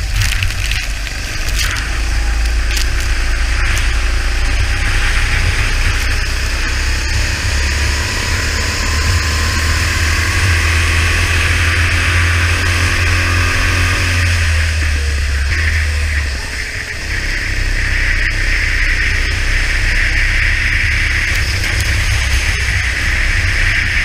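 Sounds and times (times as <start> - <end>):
go-kart engine running: 0.0 - 24.0
wind rumble on microphone: 0.0 - 24.0.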